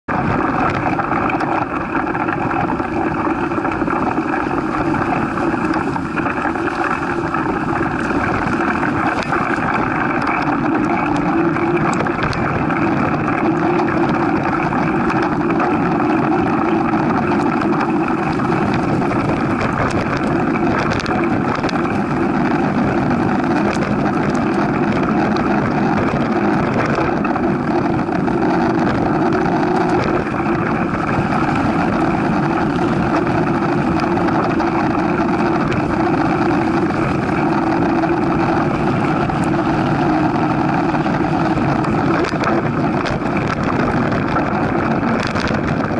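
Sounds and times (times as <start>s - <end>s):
bike tyre and frame rumble: 0.0s - 45.9s
wind over microphone: 0.0s - 45.9s.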